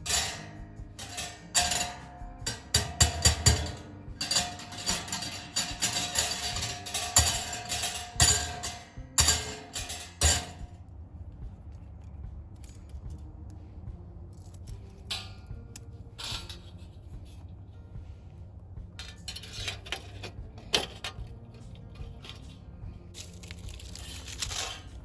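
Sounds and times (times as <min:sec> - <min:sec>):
thin metal parts clanking: 0:00.0 - 0:10.8, 0:11.4 - 0:13.3, 0:14.3 - 0:17.4, 0:19.0 - 0:25.0.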